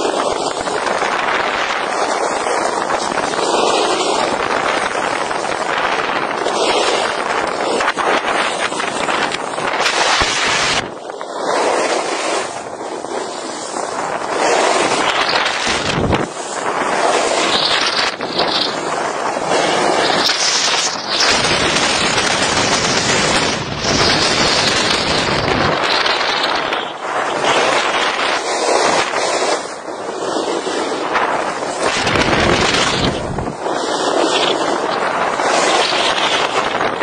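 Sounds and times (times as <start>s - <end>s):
skis scraping on snow: 0.0s - 36.7s
wind on microphone: 0.0s - 37.0s.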